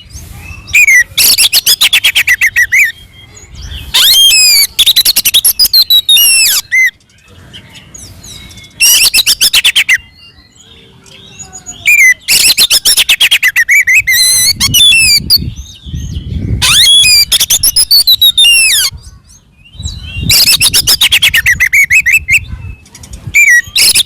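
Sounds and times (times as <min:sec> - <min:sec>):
songbird stuttering notes and whistles: 0:00.0 - 0:24.0.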